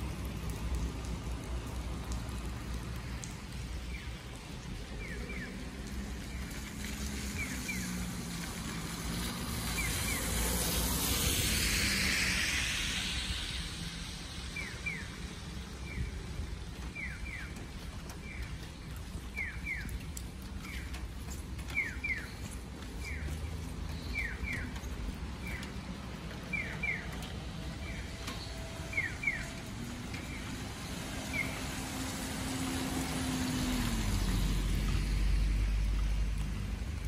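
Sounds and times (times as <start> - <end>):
tyre hiss on wet road: 0.0 - 37.0.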